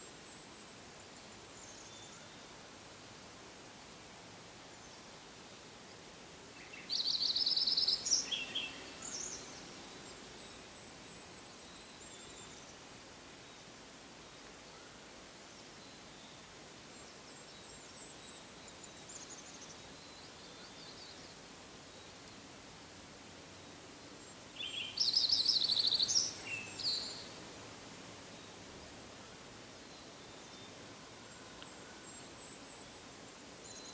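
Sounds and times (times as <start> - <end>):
steady background hiss: 0.0 - 33.9.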